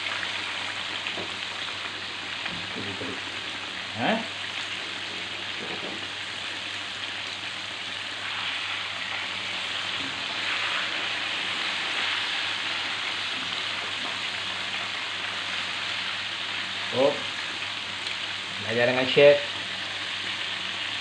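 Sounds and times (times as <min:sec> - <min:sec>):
chicken sizzling in oil: 0:00.0 - 0:21.0.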